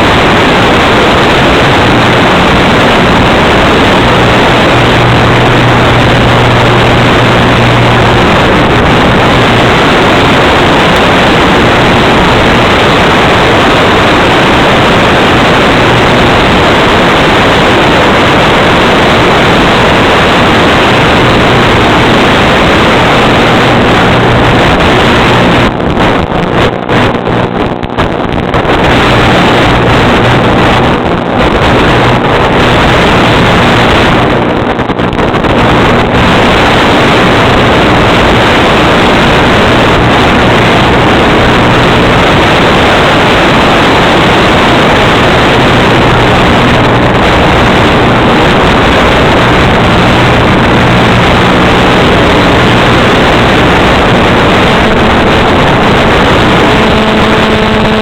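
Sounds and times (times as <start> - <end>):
low steady hum: 0.0 - 58.0
wind rushing on microphone: 0.0 - 58.0.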